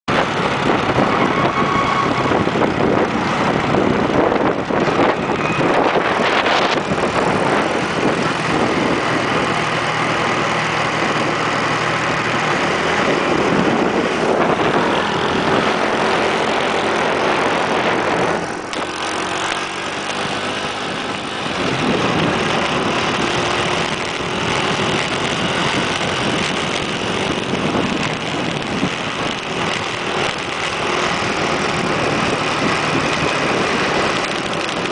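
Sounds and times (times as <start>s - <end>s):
wind rushing over microphone: 0.0s - 34.9s
motorbike engine running: 0.1s - 34.9s.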